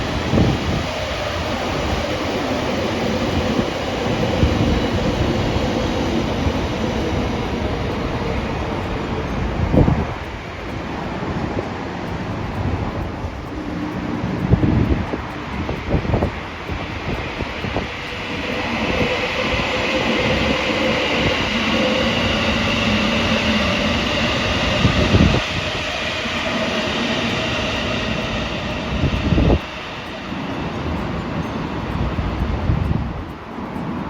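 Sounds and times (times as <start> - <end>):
faint steady whine: 0.0 - 34.0
train passing close by: 0.0 - 34.0.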